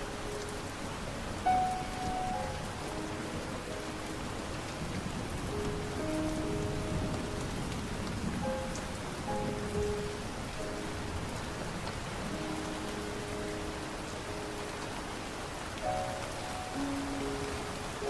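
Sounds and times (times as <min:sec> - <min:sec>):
soft background music: 0:00.0 - 0:18.0
steady rain: 0:00.0 - 0:18.0.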